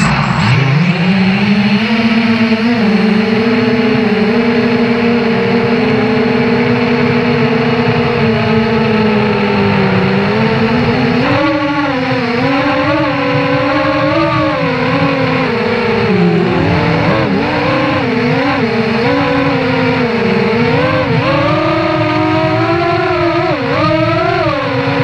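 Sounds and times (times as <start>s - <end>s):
quadcopter motors whining: 0.0s - 25.0s.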